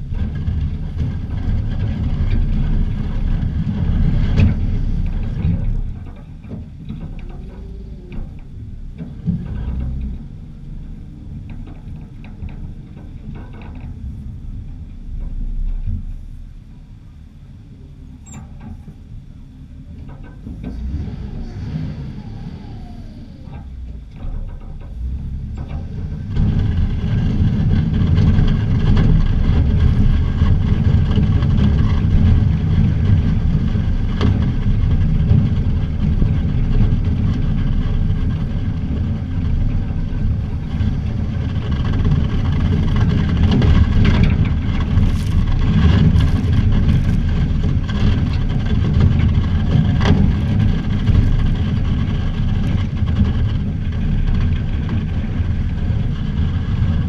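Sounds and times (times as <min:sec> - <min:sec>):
truck engine rumble: 0:00.0 - 0:57.0
wind noise: 0:00.0 - 0:57.0.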